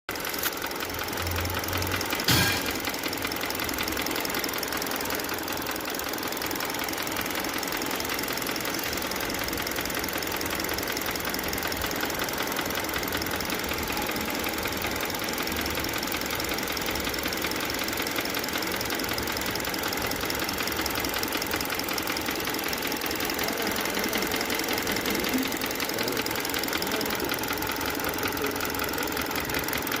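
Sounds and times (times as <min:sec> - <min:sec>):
engine knocking: 0:00.1 - 0:30.0.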